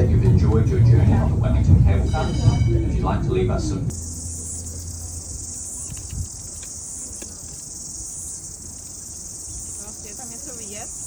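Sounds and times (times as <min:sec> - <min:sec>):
low hum: 0:00.0 - 0:10.1
insects chirring: 0:00.0 - 0:11.0.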